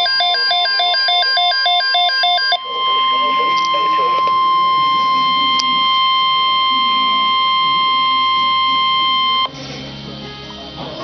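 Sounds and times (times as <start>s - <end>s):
emergency alert warning tone: 0.0s - 9.5s.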